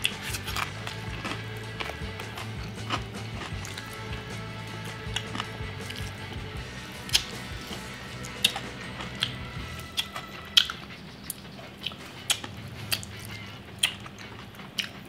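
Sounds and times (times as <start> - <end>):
crunchy chewing of fried chicken: 0.0 - 15.0.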